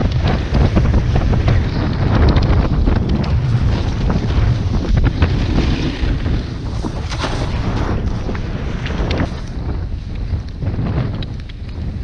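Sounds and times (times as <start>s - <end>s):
low rumble: 0.0s - 12.0s
wind buffeting microphone: 0.0s - 12.0s
snowboard edges scraping snow: 0.4s - 10.1s.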